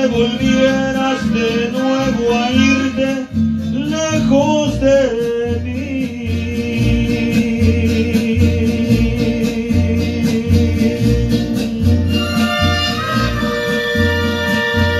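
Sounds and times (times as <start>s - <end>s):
band backing track: 0.0s - 14.9s
man singing into a microphone: 0.0s - 14.9s.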